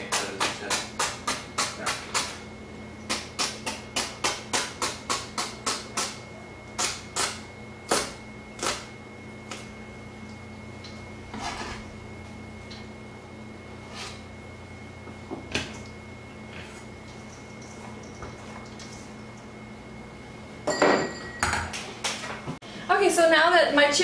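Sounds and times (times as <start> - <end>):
kitchen hum: 0.0 - 24.0.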